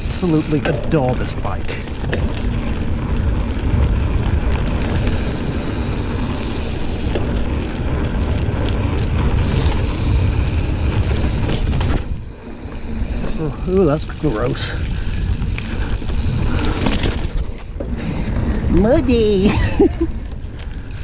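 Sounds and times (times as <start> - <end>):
bike rattling and clicking: 0.0 - 21.0
wind rumble on microphone: 0.0 - 21.0.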